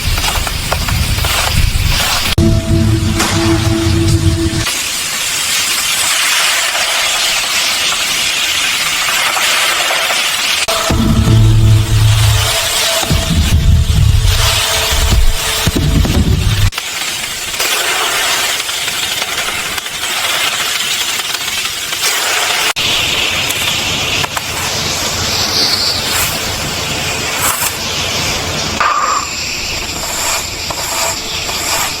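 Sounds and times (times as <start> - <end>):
chicken deep-frying in oil: 4.6 - 32.0.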